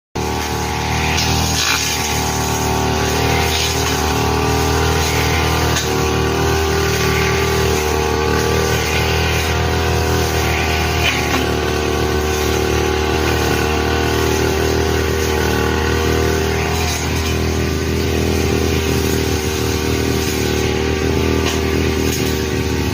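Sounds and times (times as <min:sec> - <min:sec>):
brush cutter engine cutting grass: 0:00.2 - 0:22.9.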